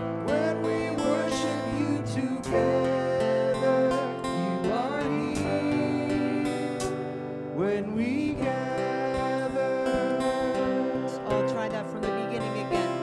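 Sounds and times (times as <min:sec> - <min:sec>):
acoustic guitar worship song: 0:00.0 - 0:13.0.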